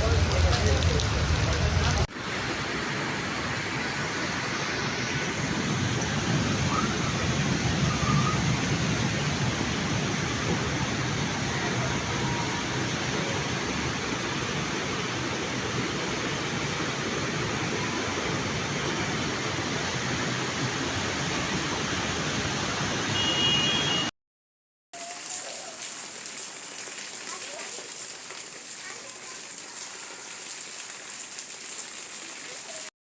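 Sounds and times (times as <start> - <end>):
heavy rain pouring: 0.0 - 23.0, 25.0 - 32.9.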